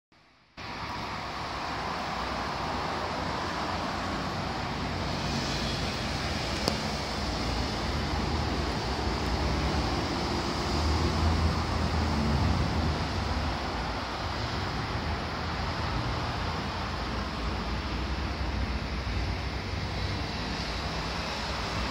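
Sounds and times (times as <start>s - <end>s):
rushing noise with low rumble: 0.6s - 21.9s.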